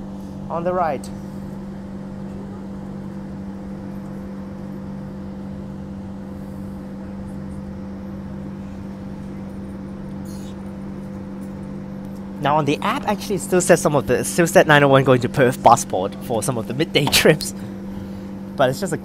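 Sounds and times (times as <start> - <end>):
electric train interior hum: 0.0 - 19.0.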